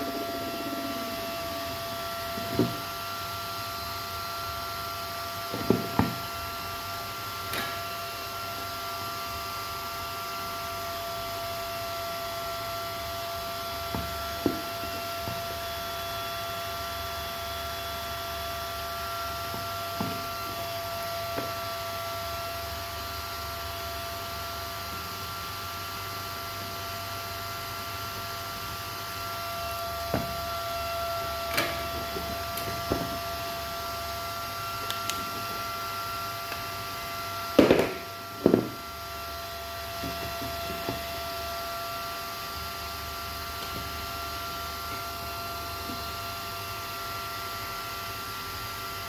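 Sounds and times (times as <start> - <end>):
electrical whine: 0.0 - 24.8, 27.8 - 46.9.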